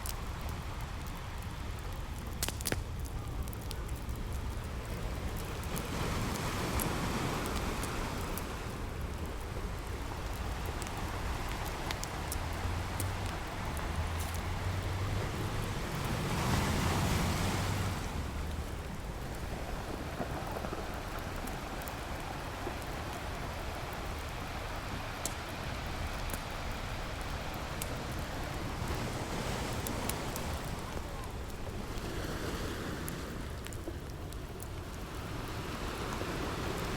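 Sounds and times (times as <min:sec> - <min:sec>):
campfire crackling: 0:00.0 - 0:36.9
ocean waves washing on beach: 0:00.0 - 0:36.9.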